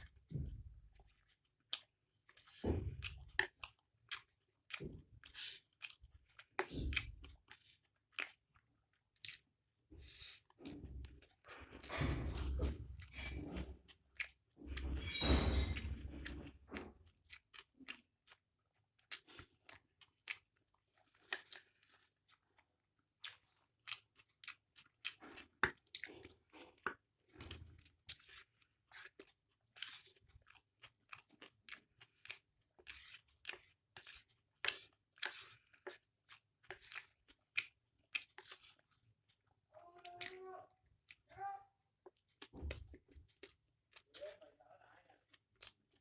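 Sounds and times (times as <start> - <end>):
crunchy chewing: 0.9 - 11.9, 15.7 - 41.3, 42.0 - 46.0.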